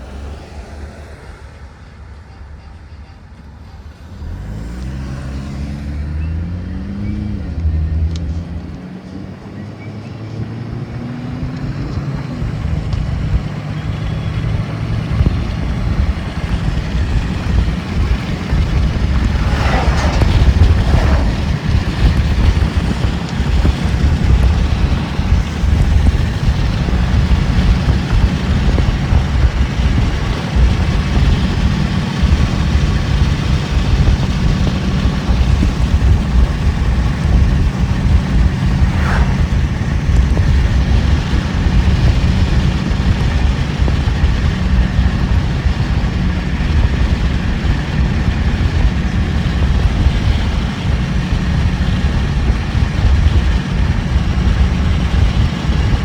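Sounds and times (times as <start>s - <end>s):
wind buffeting microphone: 6.3s - 56.0s.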